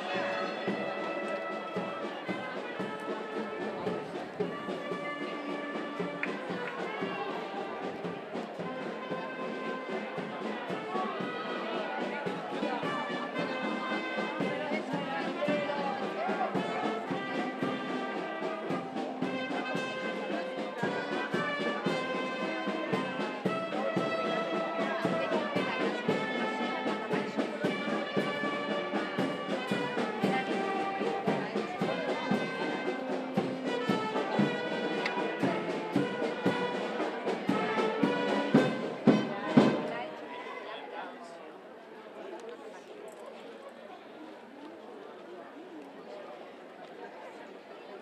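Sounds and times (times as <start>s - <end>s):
brass band playing a march: 0.0s - 40.2s.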